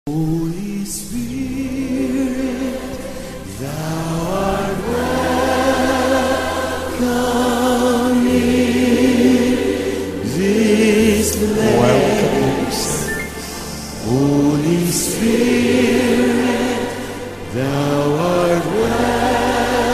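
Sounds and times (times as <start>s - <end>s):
low musical accompaniment: 0.1s - 19.9s
voices singing held notes: 0.2s - 19.9s.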